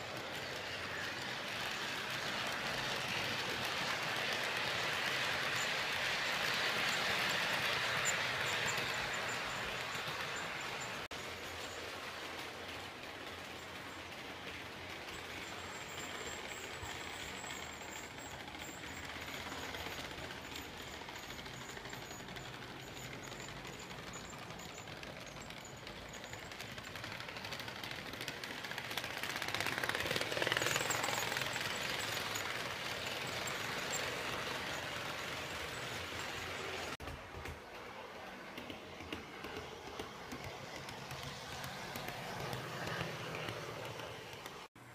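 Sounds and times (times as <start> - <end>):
model train wheels clicking on rail: 0.0 - 44.9.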